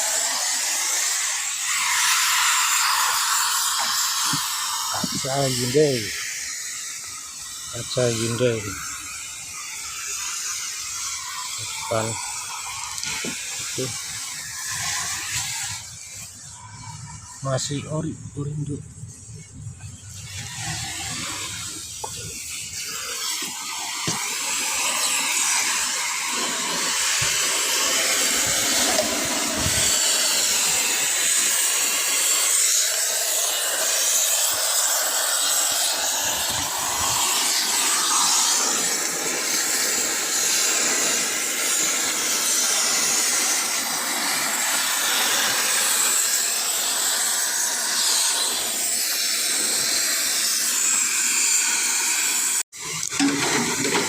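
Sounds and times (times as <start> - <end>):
loud hissing: 0.0 - 54.0.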